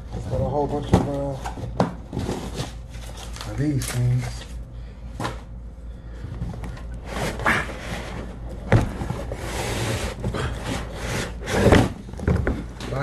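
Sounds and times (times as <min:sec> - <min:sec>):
cardboard rustling and scraping: 0:00.2 - 0:04.3, 0:06.4 - 0:13.0.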